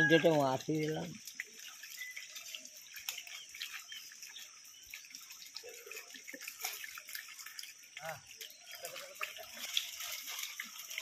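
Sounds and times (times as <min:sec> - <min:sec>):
small fish splashing at water surface: 0:00.0 - 0:11.0.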